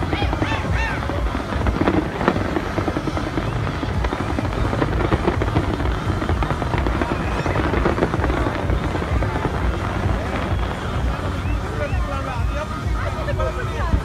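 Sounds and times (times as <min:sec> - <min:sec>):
fireworks crackles and bangs: 0:00.0 - 0:14.0
low rumble: 0:00.0 - 0:14.0.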